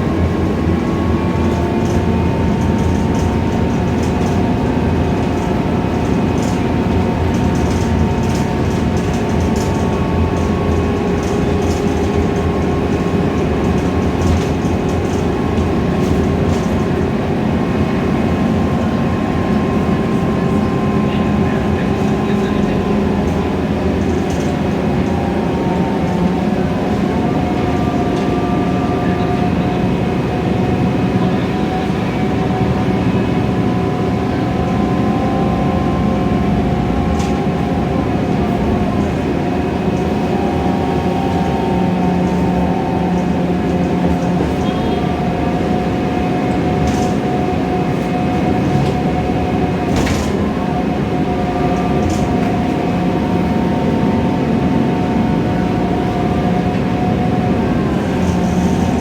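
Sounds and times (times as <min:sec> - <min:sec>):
bus engine and drivetrain noise: 0:00.0 - 0:59.0.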